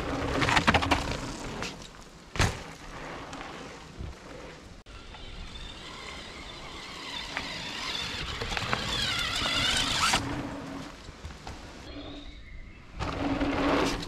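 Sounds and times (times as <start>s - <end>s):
bike tyres on gravel: 0.0s - 14.0s.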